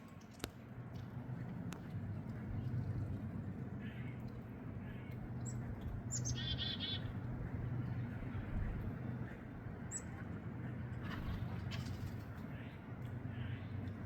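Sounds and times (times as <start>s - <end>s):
songbirds chirping: 0.0s - 14.0s
steady low hum: 0.6s - 14.0s.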